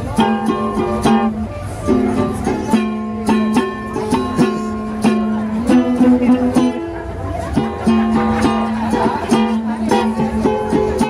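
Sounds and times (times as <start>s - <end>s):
acoustic guitar strummed chords: 0.0s - 11.0s.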